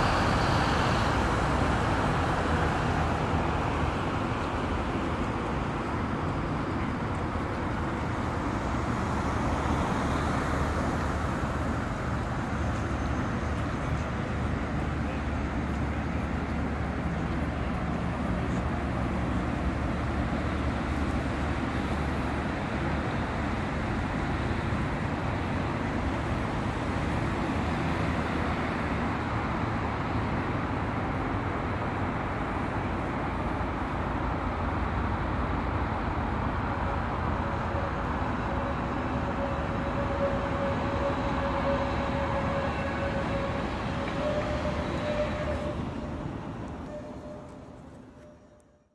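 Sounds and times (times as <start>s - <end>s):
road traffic rumble and hiss: 0.0s - 48.9s.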